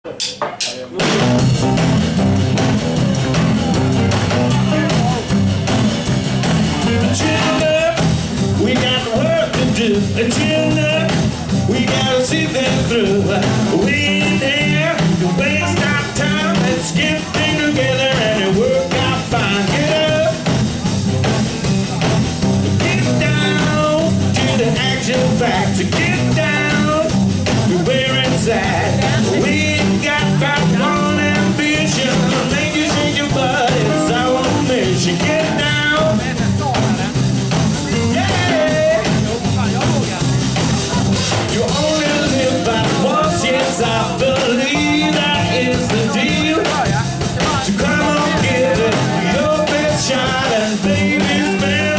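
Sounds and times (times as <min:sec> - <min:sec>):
drum kit: 0:00.0 - 0:51.9
double bass: 0:01.0 - 0:51.9
electric guitar: 0:01.0 - 0:51.9
person singing: 0:06.7 - 0:20.6, 0:22.7 - 0:51.9.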